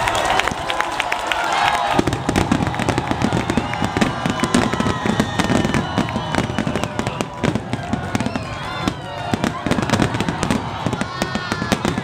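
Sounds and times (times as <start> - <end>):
fireworks bangs and crackles: 1.8 - 12.0.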